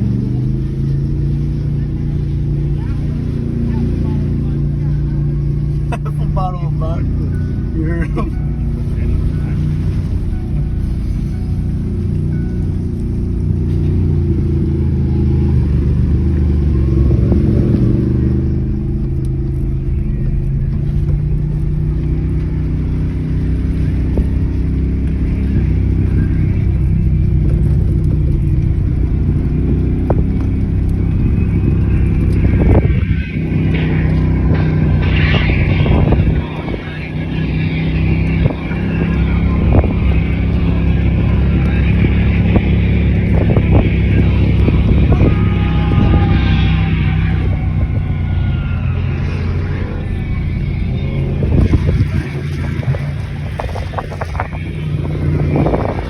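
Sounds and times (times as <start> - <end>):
car engine driving off-road: 0.0 - 56.0.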